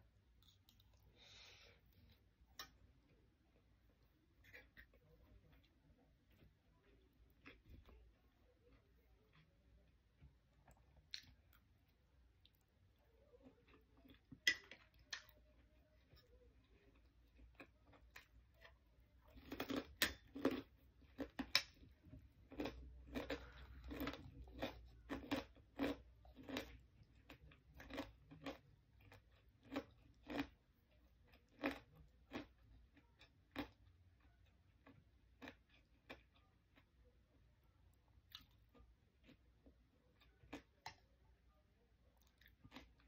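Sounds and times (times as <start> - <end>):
person chewing food: 0.1 - 37.5, 38.1 - 41.2, 42.0 - 43.0.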